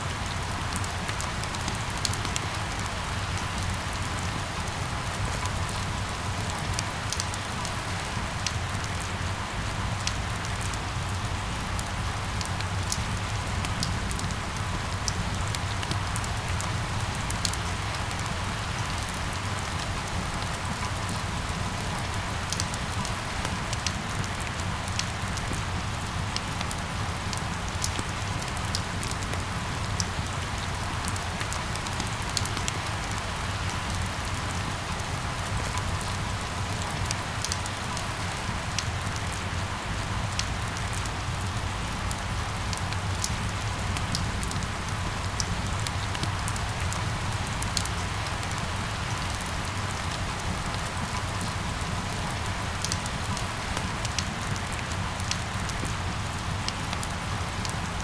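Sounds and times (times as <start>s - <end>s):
rain patter: 0.0s - 58.0s
raindrops ticking: 10.0s - 58.0s.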